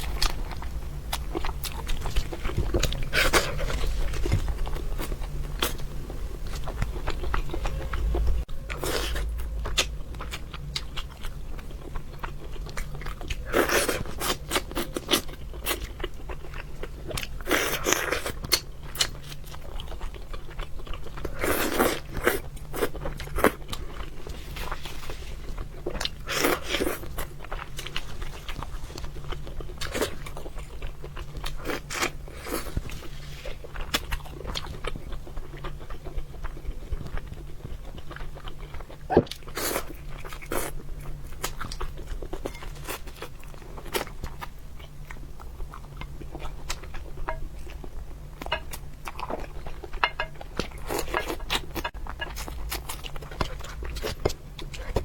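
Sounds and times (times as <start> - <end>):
crunching and chewing fish: 0.0 - 55.0
steady low hum: 0.0 - 55.0.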